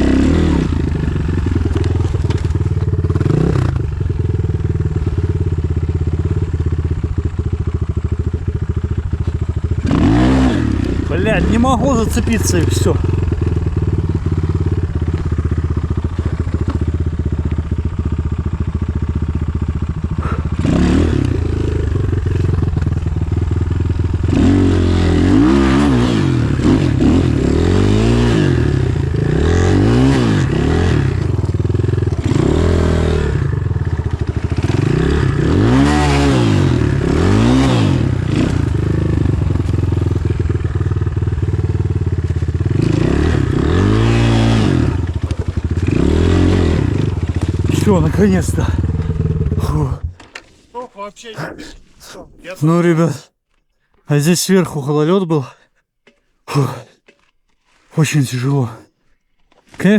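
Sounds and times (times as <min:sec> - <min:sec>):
motorcycle engine revving: 0:00.0 - 0:50.6.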